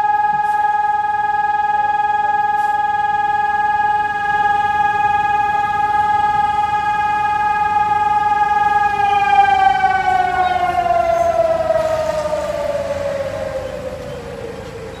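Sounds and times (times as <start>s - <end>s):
warning siren winding down: 0.0s - 15.0s.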